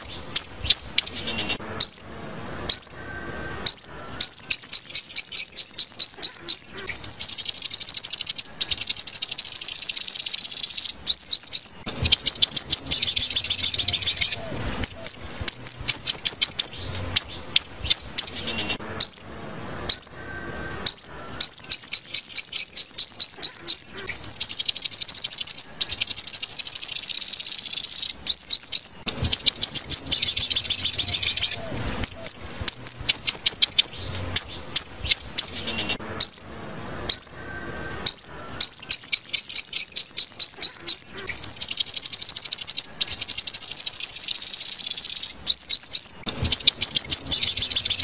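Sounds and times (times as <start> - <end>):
bird chirping and trilling: 0.0 - 48.0.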